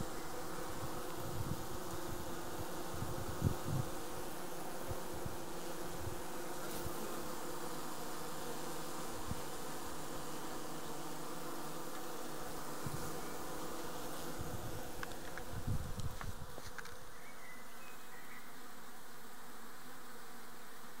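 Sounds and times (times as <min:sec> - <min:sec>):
honeybees buzzing in hive: 0:00.0 - 0:21.0.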